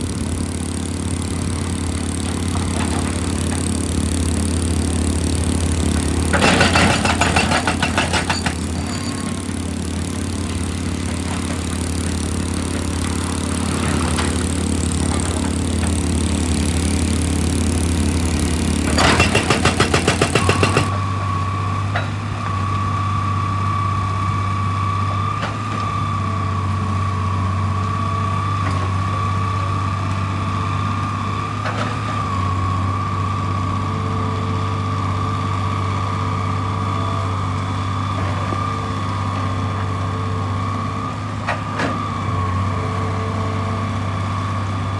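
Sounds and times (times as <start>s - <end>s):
diesel machinery running: 0.0s - 44.9s
engine high whine: 0.0s - 44.9s.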